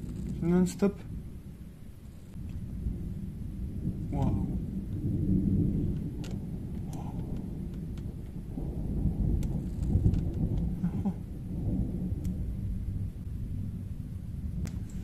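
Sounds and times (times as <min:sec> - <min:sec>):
rolling thunder: 0:00.0 - 0:15.0.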